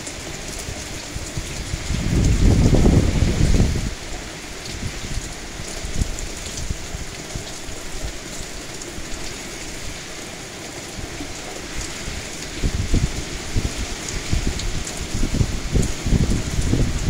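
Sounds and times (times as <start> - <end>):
heavy rain splattering: 0.0 - 17.0.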